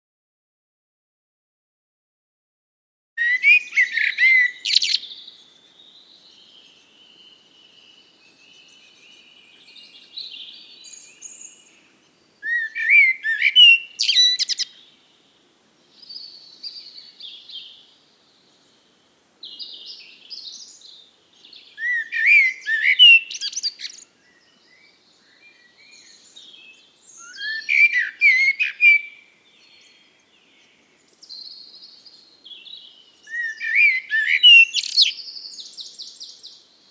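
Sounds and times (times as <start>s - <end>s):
soft bird twittering: 3.2s - 36.9s
songbirds singing: 3.2s - 36.9s.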